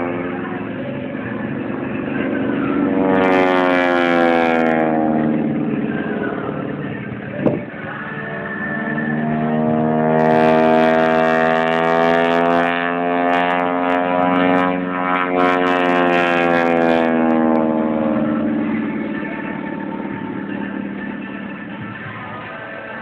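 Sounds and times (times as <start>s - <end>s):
airplane engine droning: 0.0s - 23.0s.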